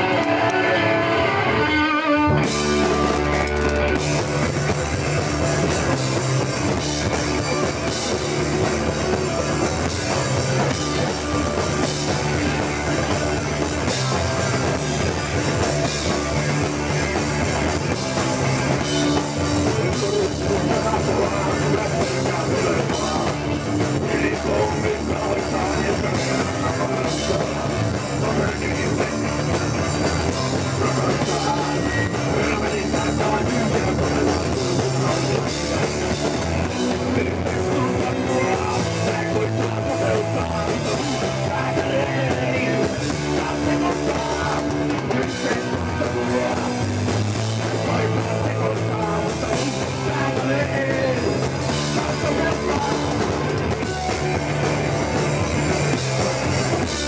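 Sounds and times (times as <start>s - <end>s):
punk band playing live: 0.0s - 57.0s.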